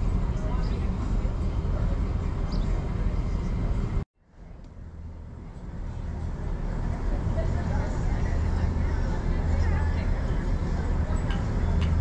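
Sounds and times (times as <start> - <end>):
street ambience low rumble: 0.0 - 12.0.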